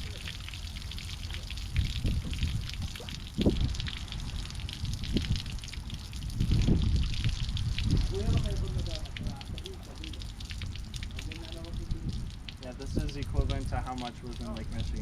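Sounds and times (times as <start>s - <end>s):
water dripping: 0.0s - 15.0s
water pouring and splashing: 0.0s - 15.0s.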